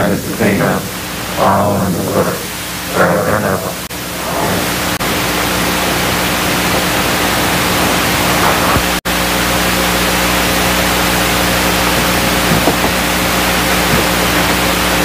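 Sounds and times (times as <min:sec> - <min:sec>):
loud steady hiss: 0:00.0 - 0:15.0
low steady hum: 0:00.0 - 0:15.0.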